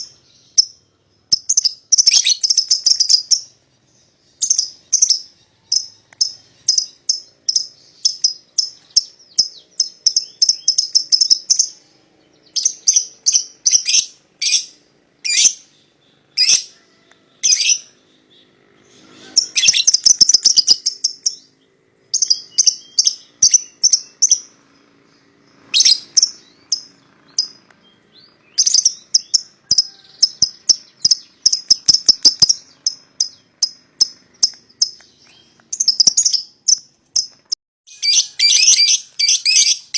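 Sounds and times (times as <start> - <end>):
lovebirds chirping: 0.0 - 39.9
sharp bird calls: 0.0 - 39.9.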